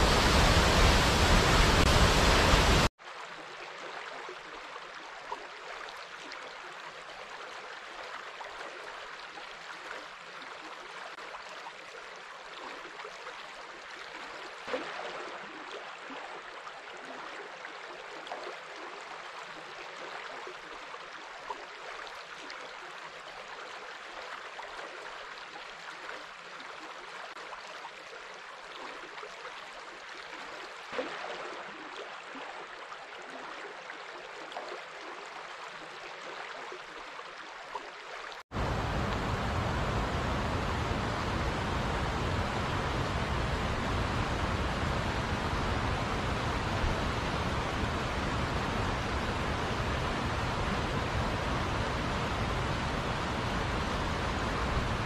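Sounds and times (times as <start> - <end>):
river water flowing: 0.0 - 55.0
water splashes and gurgles: 0.0 - 55.0.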